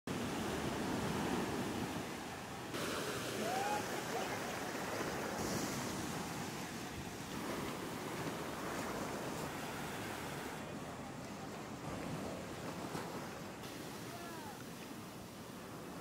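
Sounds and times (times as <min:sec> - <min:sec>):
shallow surf washing: 0:00.1 - 0:16.0.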